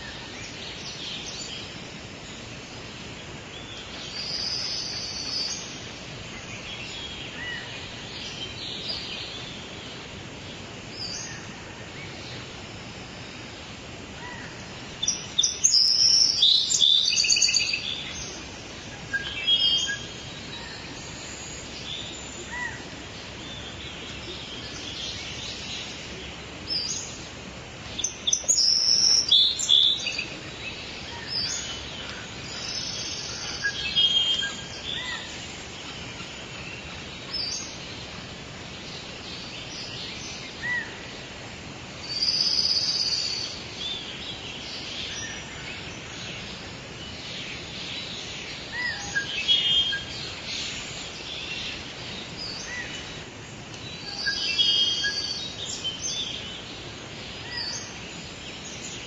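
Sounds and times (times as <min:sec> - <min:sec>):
steady outdoor hiss: 0:00.0 - 0:59.0
wild birds chirping: 0:00.0 - 0:59.0.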